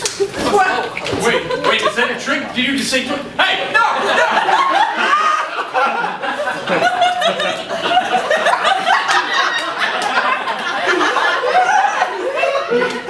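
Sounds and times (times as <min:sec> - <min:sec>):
audience laughing: 0:00.1 - 0:02.6, 0:03.6 - 0:13.0.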